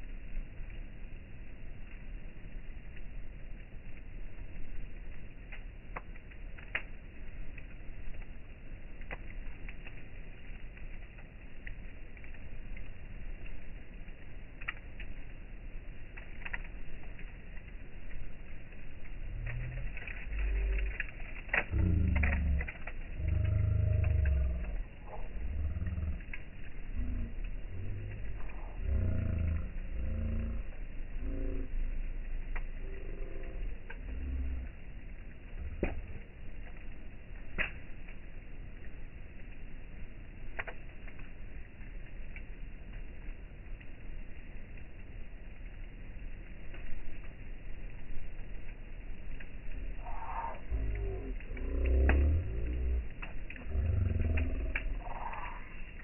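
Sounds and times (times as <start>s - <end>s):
campfire popping and snapping: 0.0s - 56.0s
low steady rumble: 0.0s - 56.0s.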